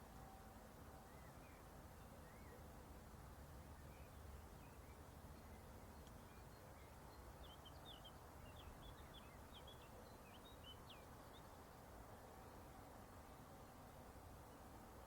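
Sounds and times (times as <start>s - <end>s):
faint bird chirping: 0.0s - 15.0s
low background noise: 0.0s - 15.0s.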